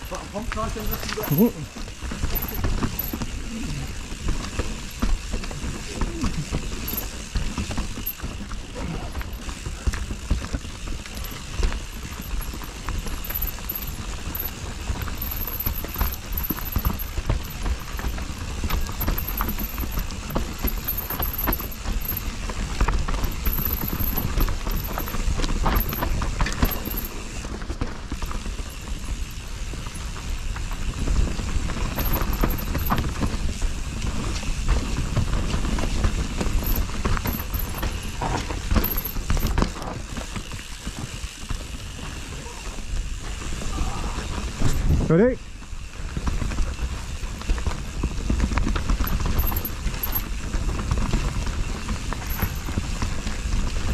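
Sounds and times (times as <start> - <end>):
bike rattling and knocking: 0.0 - 53.9
bike tyres rumbling over roots: 0.0 - 53.9.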